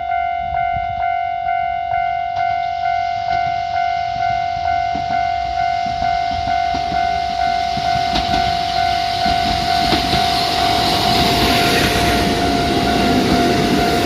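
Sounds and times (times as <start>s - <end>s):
level-crossing warning bell: 0.0s - 14.0s
train wheels rumbling on rails: 2.3s - 14.0s.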